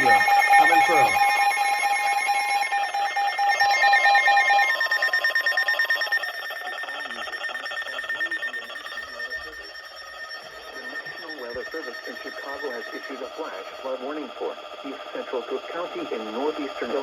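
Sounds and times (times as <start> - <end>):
pulsing electronic alert beeps: 0.0 - 17.0
quiet electronic tones: 0.0 - 17.0.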